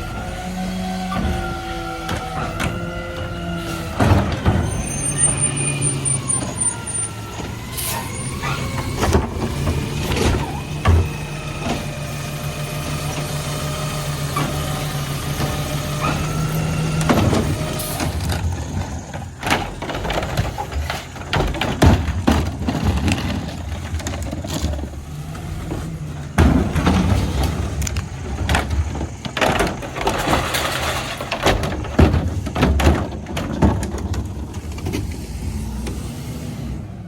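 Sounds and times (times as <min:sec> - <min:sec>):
knocks and clanks of refuse: 0:00.0 - 0:36.2
garbage truck engine drone: 0:00.0 - 0:37.0.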